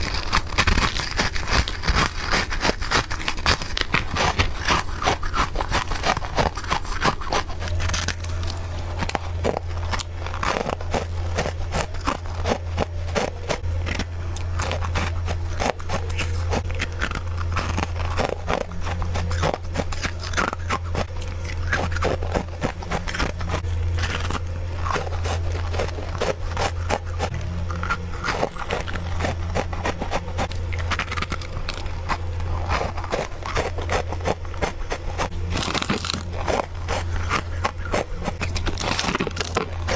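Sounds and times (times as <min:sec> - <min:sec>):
frost crunching when chewed: 0:00.0 - 0:39.9
low steady hum: 0:00.0 - 0:39.9.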